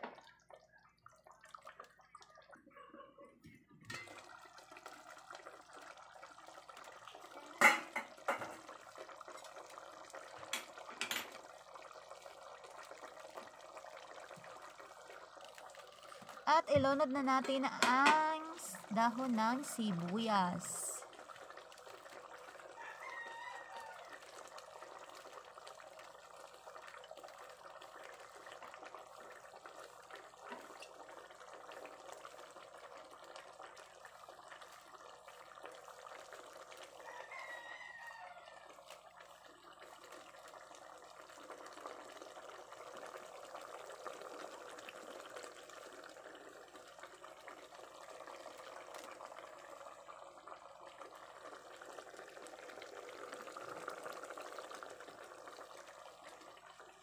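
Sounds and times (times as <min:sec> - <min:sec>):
sauce bubbling in pot: 0:00.0 - 0:02.8, 0:03.7 - 0:57.0.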